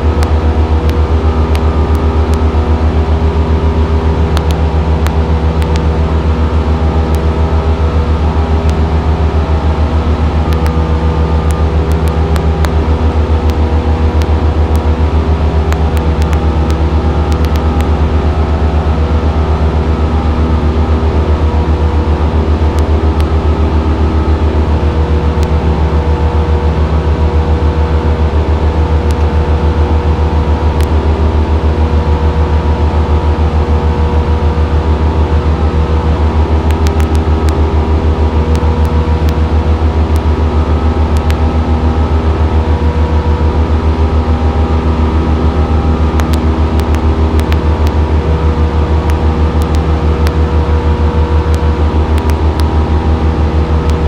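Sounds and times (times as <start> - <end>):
airplane engine and propeller drone: 0.0 - 54.0.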